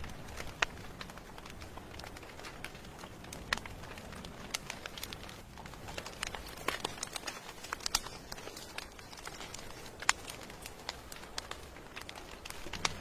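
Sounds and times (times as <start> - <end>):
rain hissing: 0.0 - 13.0
wood fire crackling and popping: 0.0 - 13.0.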